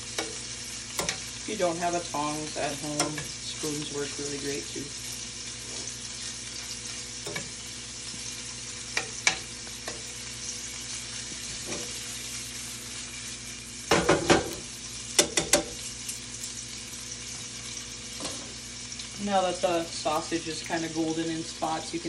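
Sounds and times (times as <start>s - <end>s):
sausage sizzling in oil: 0.0s - 22.0s.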